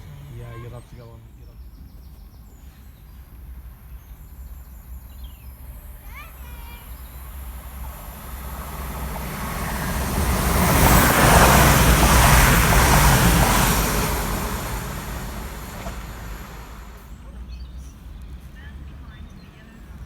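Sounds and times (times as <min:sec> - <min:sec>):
train passing: 0:00.0 - 0:20.0.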